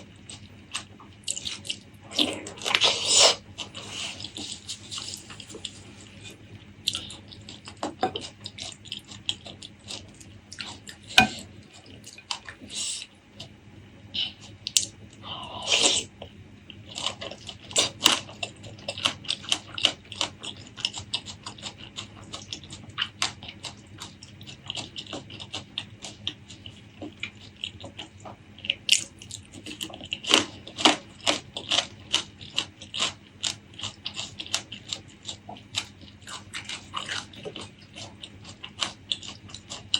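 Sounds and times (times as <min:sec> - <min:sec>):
wet chewing: 0:00.2 - 0:12.5, 0:16.2 - 0:39.9.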